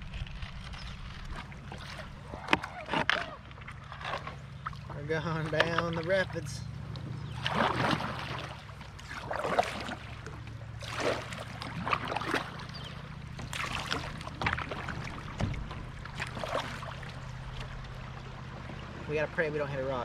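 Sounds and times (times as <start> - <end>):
steady low rumble: 0.0 - 20.0
water rushing and splashing: 0.0 - 20.0.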